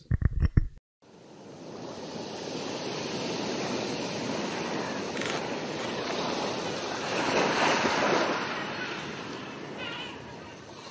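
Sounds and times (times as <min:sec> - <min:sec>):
sea waves washing on shore: 0:01.1 - 0:10.9.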